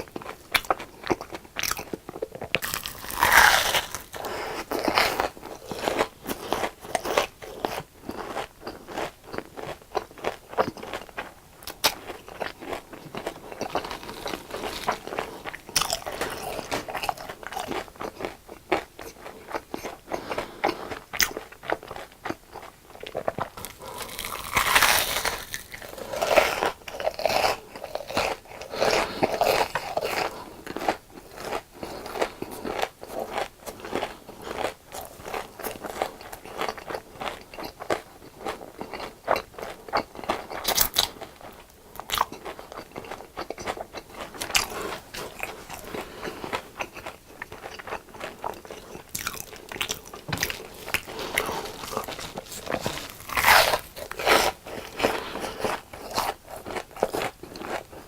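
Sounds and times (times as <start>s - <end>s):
crunching fried food: 0.0s - 58.0s.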